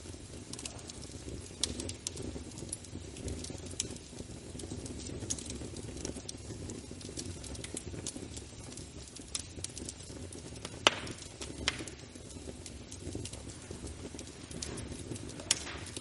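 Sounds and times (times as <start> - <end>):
fire crackling: 0.0 - 16.0
fire rumbling: 0.0 - 16.0
sharp pops of fire: 0.0 - 16.0.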